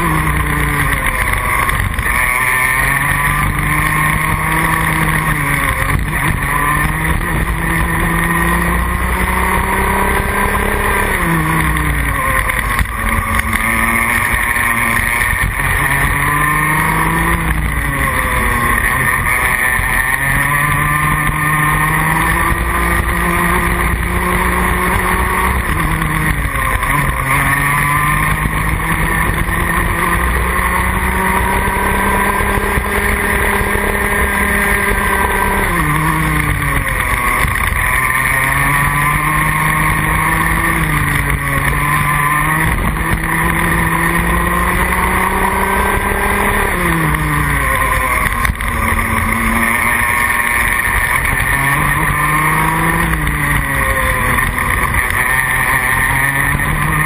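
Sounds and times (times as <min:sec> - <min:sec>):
kart engine at full throttle: 0:00.0 - 0:57.0.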